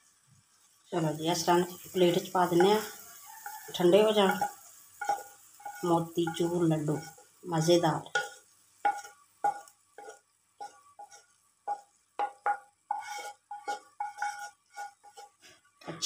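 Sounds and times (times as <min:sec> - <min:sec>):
spatula scraping and tapping pan: 0:01.0 - 0:16.0.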